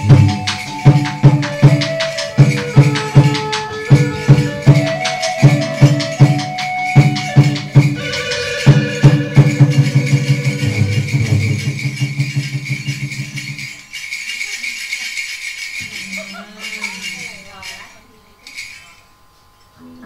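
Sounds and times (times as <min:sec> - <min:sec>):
percussion beat: 0:00.0 - 0:19.7.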